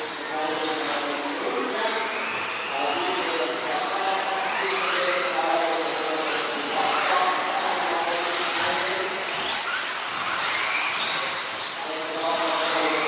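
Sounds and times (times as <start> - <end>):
rc car electric motors whining: 0.0 - 13.0.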